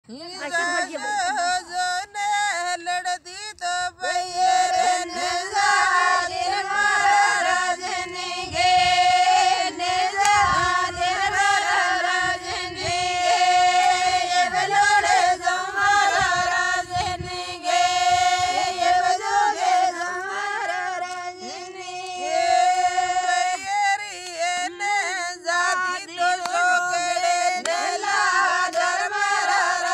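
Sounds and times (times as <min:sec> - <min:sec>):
women singing folk song: 0:00.0 - 0:29.9.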